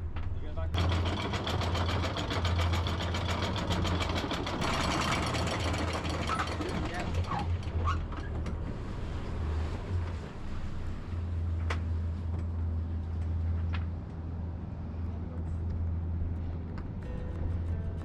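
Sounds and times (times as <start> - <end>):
boat engine droning: 0.6 - 18.0.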